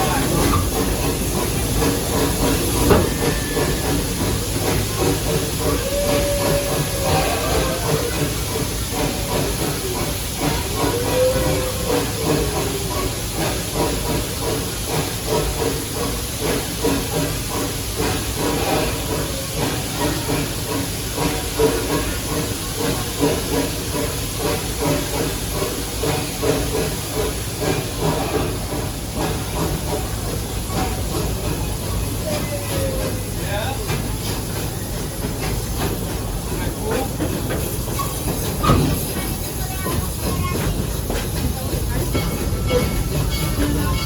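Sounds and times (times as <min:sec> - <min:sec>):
train rumbling and clattering: 0:00.0 - 0:44.0
train wheel squeal: 0:01.8 - 0:33.5, 0:36.9 - 0:44.0.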